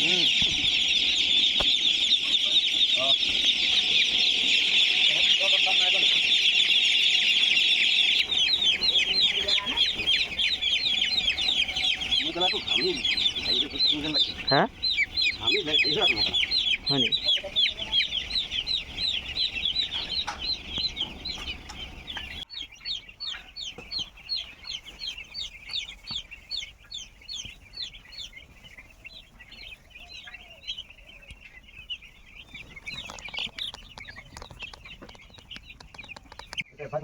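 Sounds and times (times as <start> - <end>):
chicks peeping: 0.0 - 37.0.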